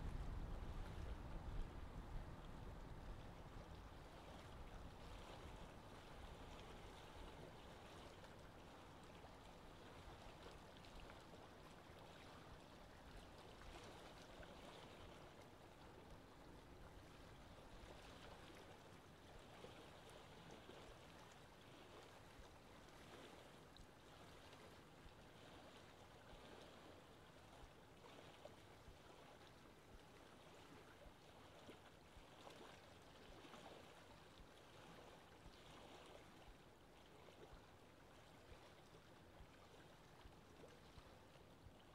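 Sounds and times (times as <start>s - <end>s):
choppy sea water: 0.0s - 41.9s
wind: 0.0s - 41.9s.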